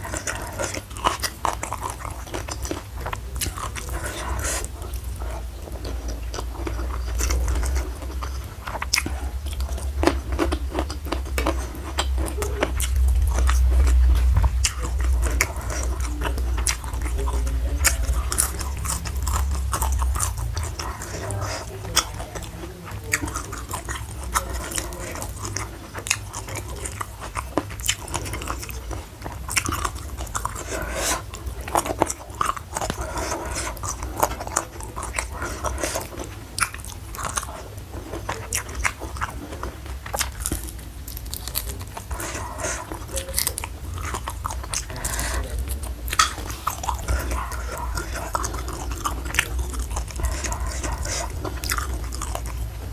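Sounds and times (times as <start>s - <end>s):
chewing crisp food: 0.0s - 52.9s
low steady hum: 0.0s - 52.9s.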